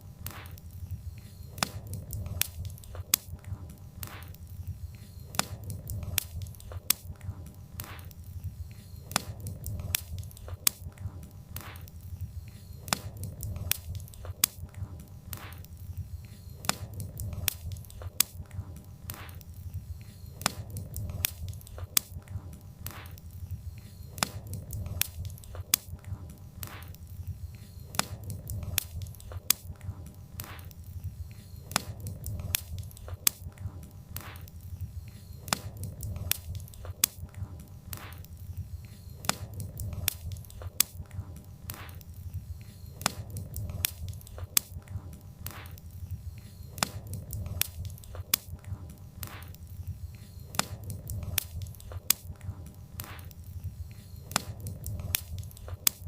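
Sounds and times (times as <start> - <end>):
burning logs crackling and popping: 0.0 - 56.0
low rumble of flames: 0.0 - 56.0.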